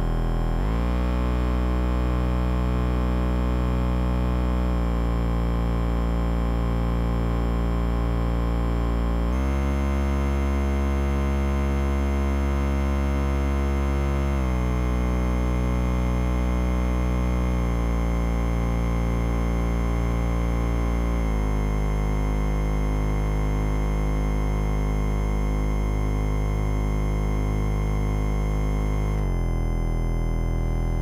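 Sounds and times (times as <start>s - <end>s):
synthesizer drone chord: 0.0s - 3.0s, 7.5s - 31.0s
low throbbing bass: 0.0s - 31.0s.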